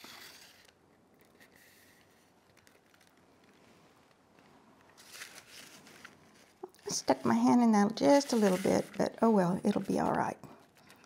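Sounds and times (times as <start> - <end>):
hands rustling foam and paper: 1.3 - 11.0.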